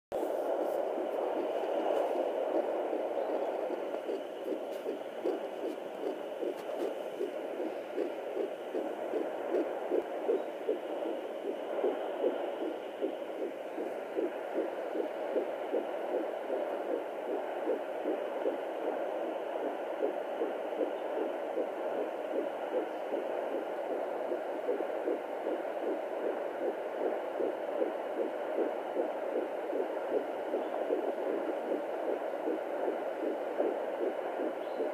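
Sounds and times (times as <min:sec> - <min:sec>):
fetal heartbeat whooshing pulse: 0:00.2 - 0:34.9.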